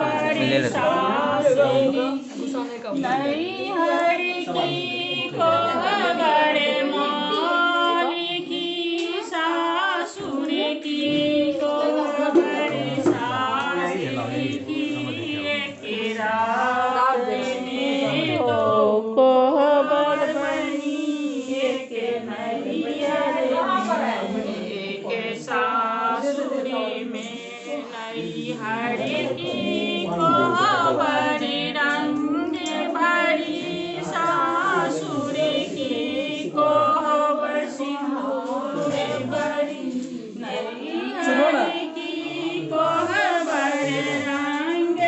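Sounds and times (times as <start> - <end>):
group of voices singing: 0.0 - 45.0.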